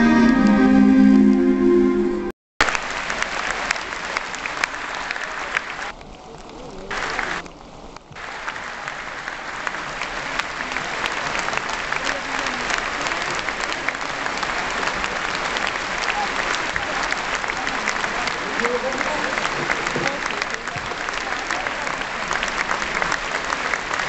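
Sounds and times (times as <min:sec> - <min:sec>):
large audience applauding: 0:02.6 - 0:07.5, 0:08.2 - 0:24.0.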